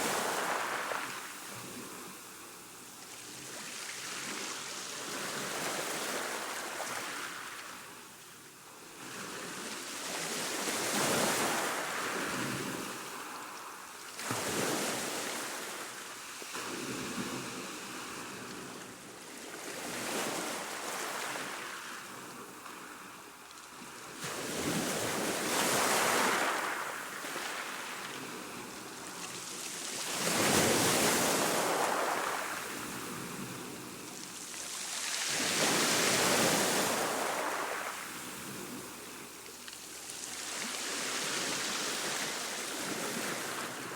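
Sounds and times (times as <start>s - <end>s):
waves surging and hissing: 0.0s - 43.9s.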